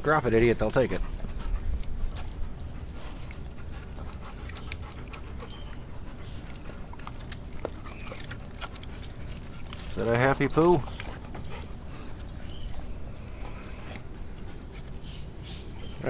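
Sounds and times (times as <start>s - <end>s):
dog chewing: 0.0s - 16.0s.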